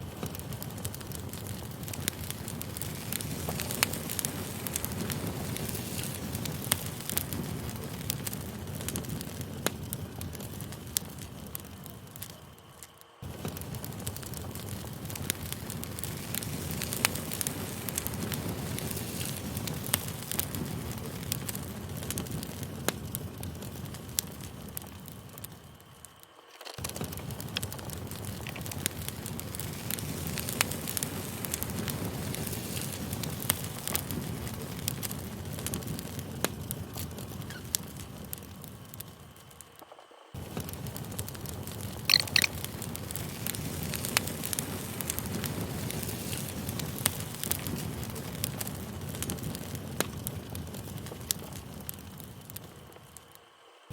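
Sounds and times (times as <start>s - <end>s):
campfire crackling and popping: 0.0s - 53.5s.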